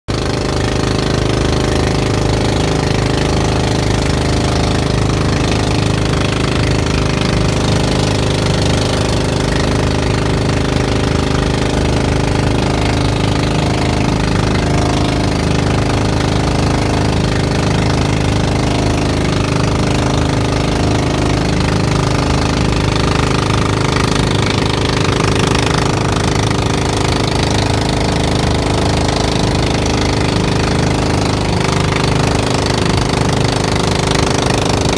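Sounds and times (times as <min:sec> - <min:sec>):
boat engine knocking drone: 0:00.1 - 0:34.9
water rushing: 0:00.1 - 0:34.9
wind: 0:00.1 - 0:34.9.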